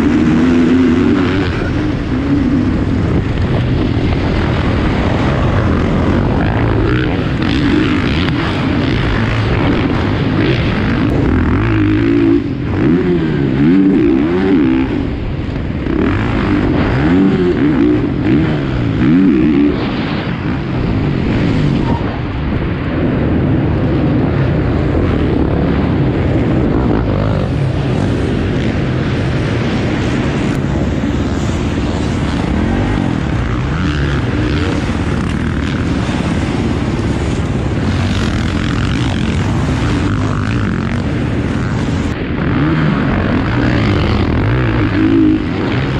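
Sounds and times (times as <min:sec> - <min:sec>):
motocross bike engine revving: 0:00.0 - 0:22.9, 0:23.8 - 0:45.9.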